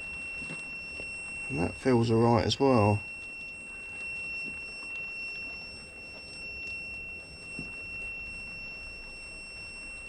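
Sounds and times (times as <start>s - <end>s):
continuity tester high beep: 0.0s - 10.0s.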